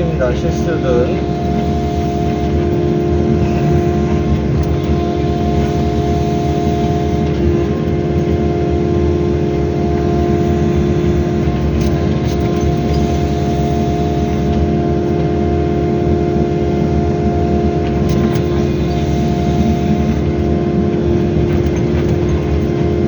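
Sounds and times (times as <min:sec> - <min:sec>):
excavator diesel engine running: 0:00.0 - 0:23.0
steady whine: 0:00.0 - 0:23.0.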